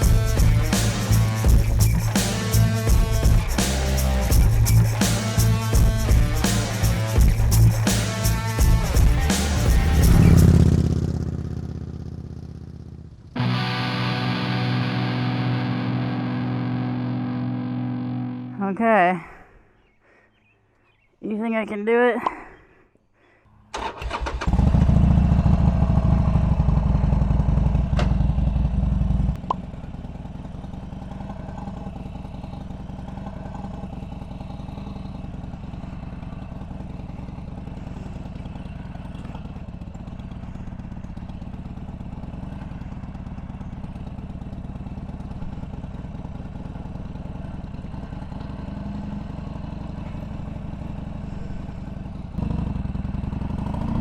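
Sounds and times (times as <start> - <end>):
motorcycle engine running: 0.0 - 18.7, 24.4 - 54.0.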